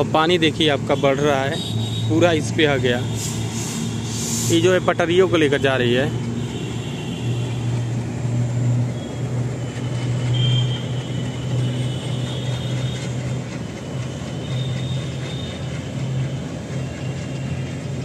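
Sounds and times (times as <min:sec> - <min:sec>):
train rumbling over steel bridge: 0:00.0 - 0:18.0.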